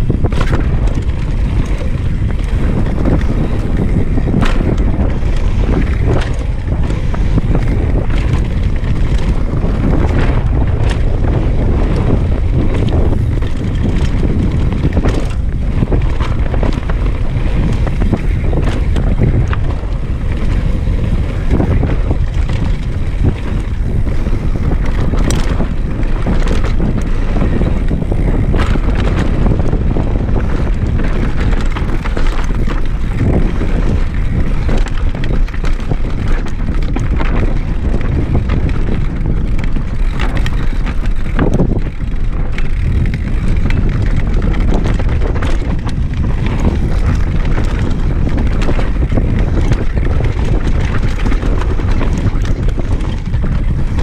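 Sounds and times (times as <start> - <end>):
bike knocks and rattles: 0.0 - 54.0
bike tyres rumbling on dirt: 0.0 - 54.0
wind rushing over microphone: 0.0 - 54.0.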